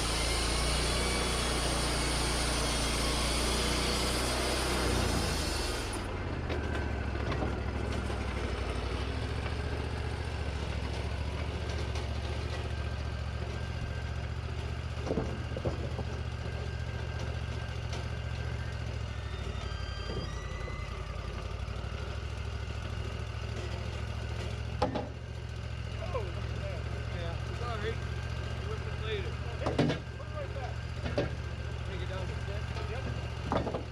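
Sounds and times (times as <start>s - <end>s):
sawmill engine humming: 0.0s - 33.9s.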